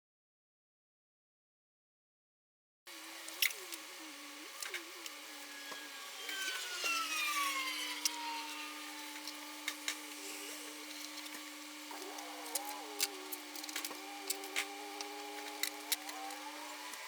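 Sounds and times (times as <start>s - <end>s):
tool humming with falling whine: 2.9s - 17.0s.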